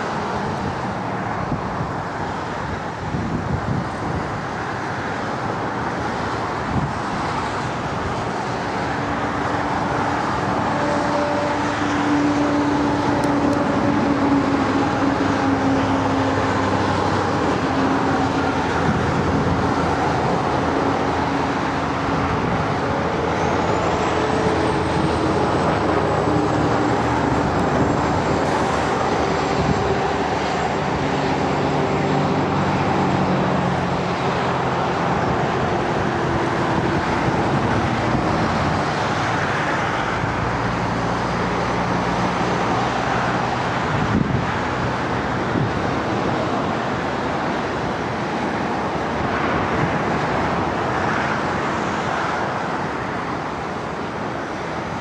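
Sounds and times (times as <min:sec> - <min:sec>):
turboprop plane engines humming: 0:00.0 - 0:55.0.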